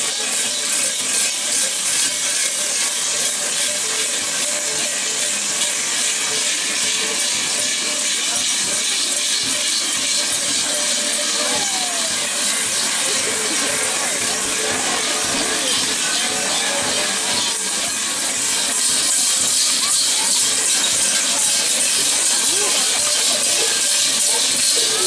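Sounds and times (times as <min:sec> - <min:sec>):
crowd voices: 0:00.0 - 0:25.0
large bells clanging and jingling: 0:00.0 - 0:25.0.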